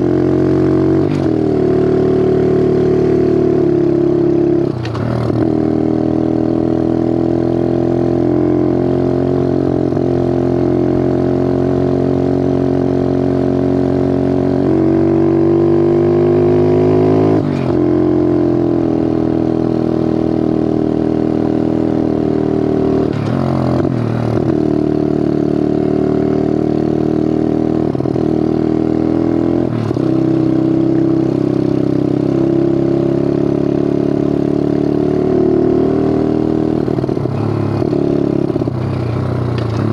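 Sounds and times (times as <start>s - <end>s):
pit bike engine running: 7.9s - 39.9s.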